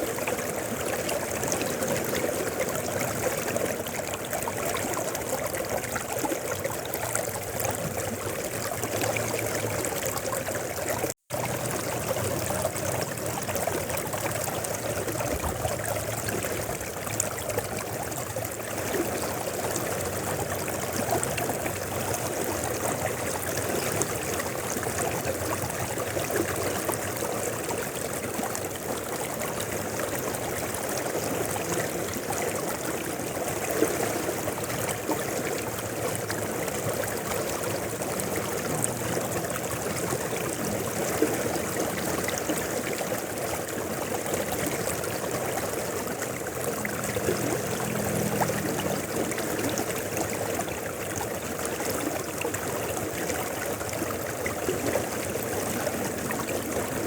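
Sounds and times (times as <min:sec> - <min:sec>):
river water rushing: 0:00.0 - 0:57.0
small water splashes: 0:00.0 - 0:57.0.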